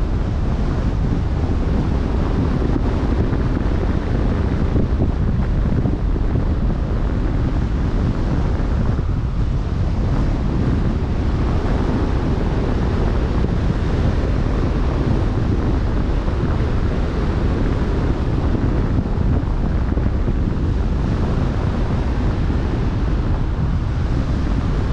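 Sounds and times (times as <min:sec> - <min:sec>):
rush of open sea: 0:00.0 - 0:24.9
wind buffeting microphone: 0:00.0 - 0:24.9.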